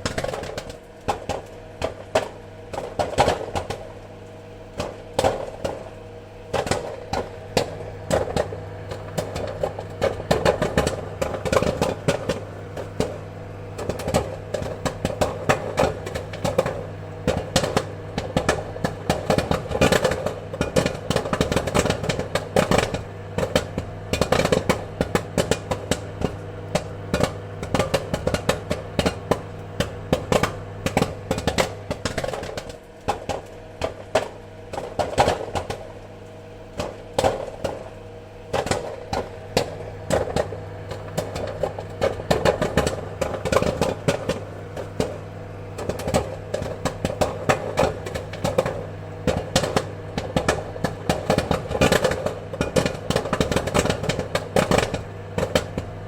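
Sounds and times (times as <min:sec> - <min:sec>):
popcorn popping: 0:00.0 - 0:56.0
steady low hum: 0:00.0 - 0:56.0.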